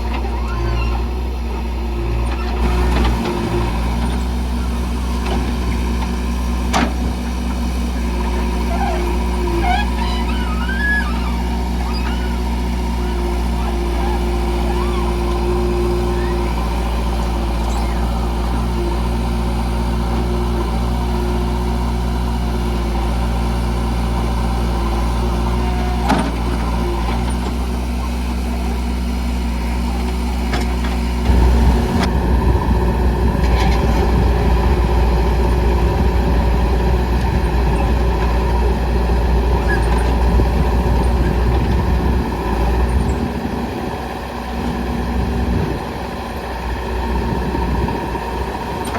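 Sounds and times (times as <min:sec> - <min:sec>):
backhoe diesel engine running: 0:00.0 - 0:48.9.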